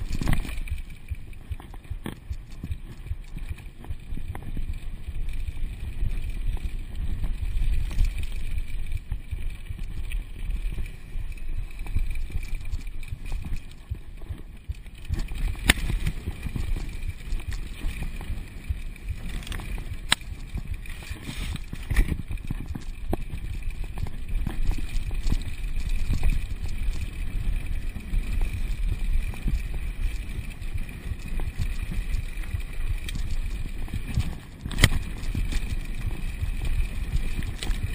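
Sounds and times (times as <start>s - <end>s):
bike rattling over ground: 0.0s - 37.9s
wind buffeting microphone: 0.0s - 37.9s.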